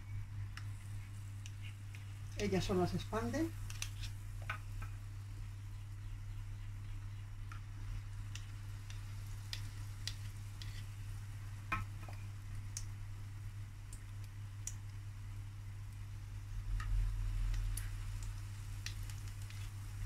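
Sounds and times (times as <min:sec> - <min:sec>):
steady low hum: 0:00.0 - 0:20.0
batter frying in crackling oil: 0:00.1 - 0:20.0.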